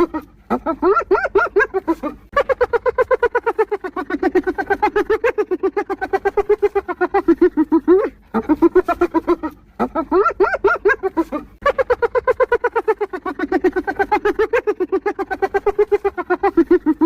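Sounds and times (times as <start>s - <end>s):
hyena giggling whoops: 0.0s - 17.0s.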